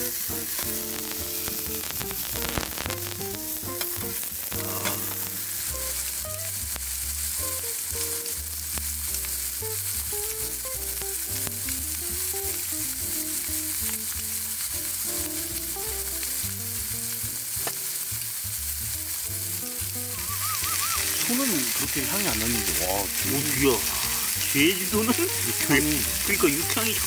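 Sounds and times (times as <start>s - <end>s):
background music: 0.0s - 6.8s, 9.4s - 17.6s, 19.0s - 27.0s
meat sizzling on a grill: 0.0s - 27.0s.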